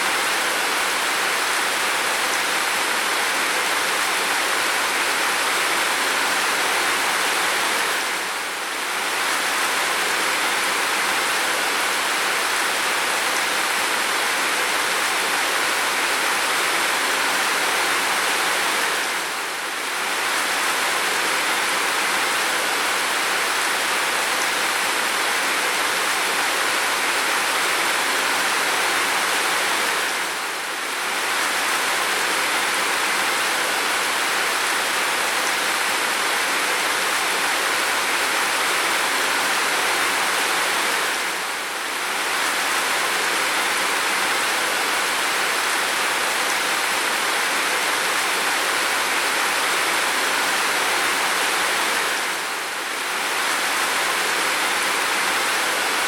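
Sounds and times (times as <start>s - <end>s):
heavy rain downpour: 0.0s - 56.0s.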